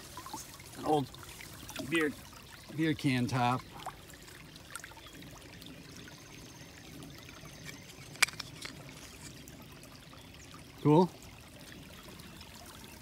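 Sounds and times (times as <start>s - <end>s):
creek trickling over stones: 0.0s - 13.0s.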